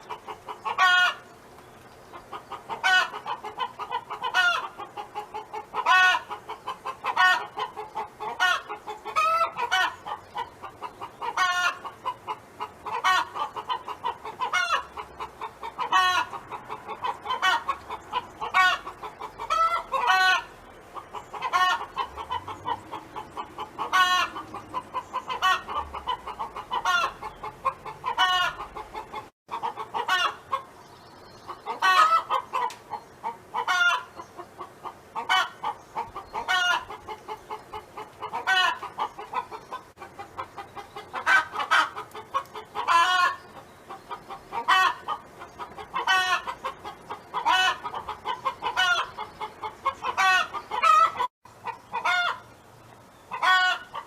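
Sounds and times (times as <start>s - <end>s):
hen clucking and calling: 0.0s - 54.0s.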